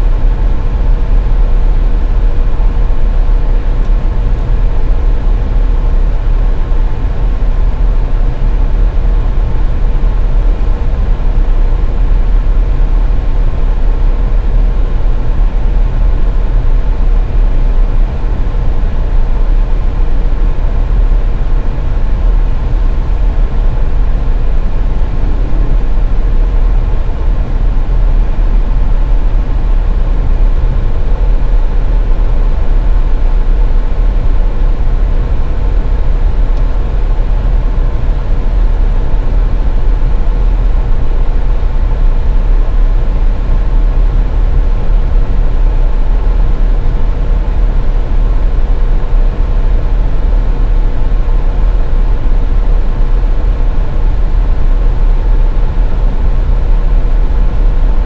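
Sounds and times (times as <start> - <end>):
faint constant hum: 0.0 - 58.0.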